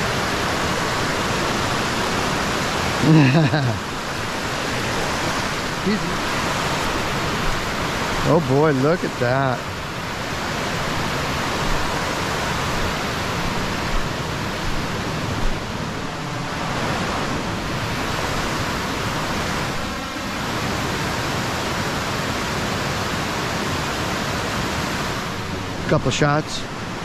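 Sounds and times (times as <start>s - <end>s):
river water rushing over rocks: 0.0s - 27.0s.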